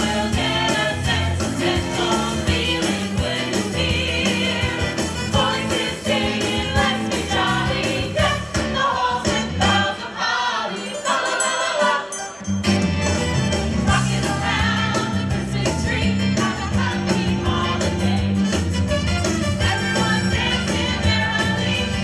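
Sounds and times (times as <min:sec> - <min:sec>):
steady bass line: 0:00.0 - 0:09.9, 0:12.6 - 0:22.0
group singing with instruments: 0:00.0 - 0:12.4, 0:13.8 - 0:18.6, 0:19.5 - 0:22.0.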